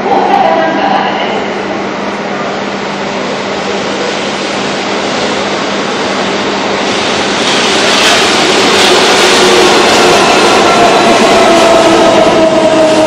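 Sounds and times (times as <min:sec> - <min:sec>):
electric train approaching in tunnel: 0:00.0 - 0:13.0.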